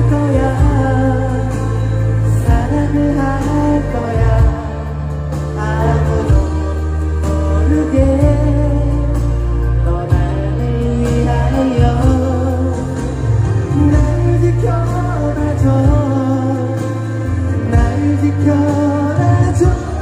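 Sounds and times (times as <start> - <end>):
band playing with bass: 0.0 - 20.0
person singing: 0.0 - 20.0.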